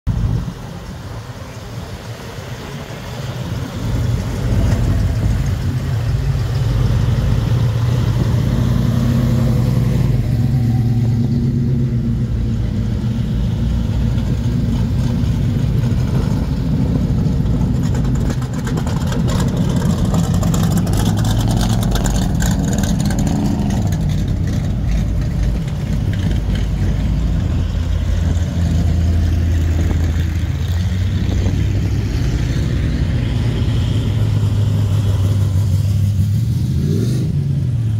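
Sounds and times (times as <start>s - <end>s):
car engines driving slowly past: 0.1s - 37.9s.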